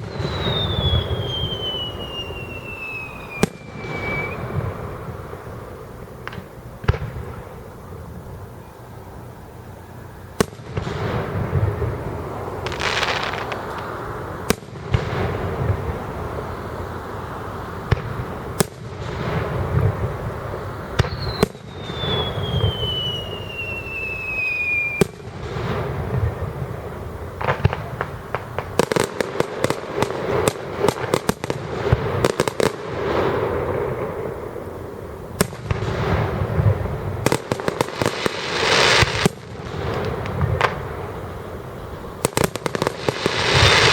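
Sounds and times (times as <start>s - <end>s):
firework whistle gliding down: 0.0s - 6.4s, 7.2s - 31.6s, 32.2s - 43.9s
firework bangs and booms: 0.0s - 8.4s, 10.4s - 43.9s
firework crackling volleys: 0.0s - 43.9s.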